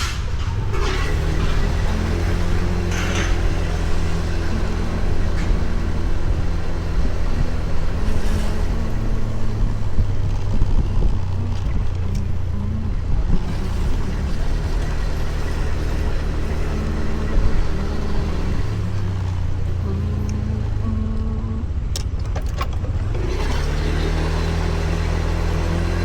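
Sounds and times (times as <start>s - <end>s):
road and wind noise: 0.0s - 26.0s
motor scooter engine running: 0.6s - 26.0s.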